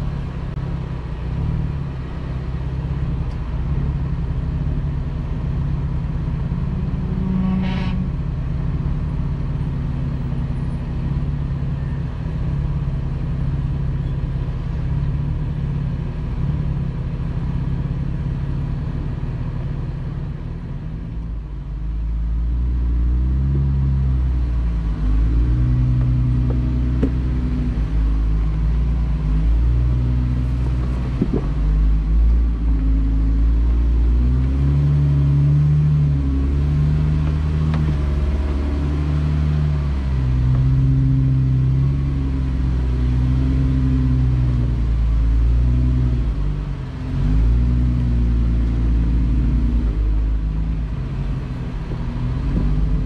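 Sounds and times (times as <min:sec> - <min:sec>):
car engine revving low: 0:00.0 - 0:53.0.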